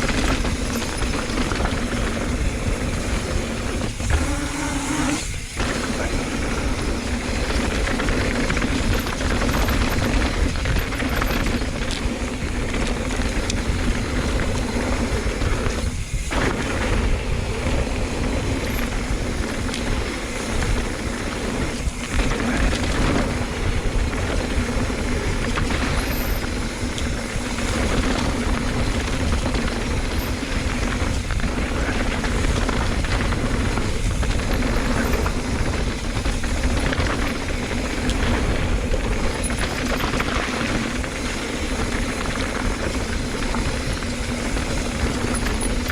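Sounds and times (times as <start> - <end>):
bike rattling over rough trail: 0.0 - 45.9
wind rushing over microphone: 0.0 - 45.9.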